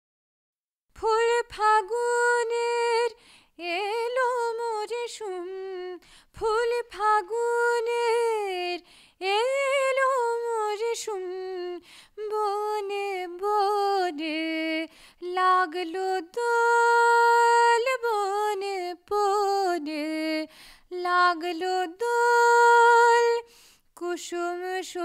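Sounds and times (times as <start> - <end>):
woman singing unaccompanied: 0.9 - 25.0.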